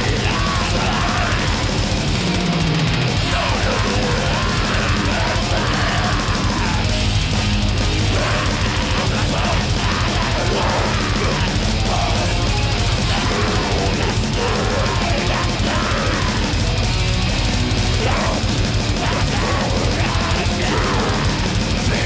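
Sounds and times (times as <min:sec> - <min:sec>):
distorted guitars and bass: 0:00.0 - 0:22.0
fast dense drumming: 0:00.0 - 0:22.0.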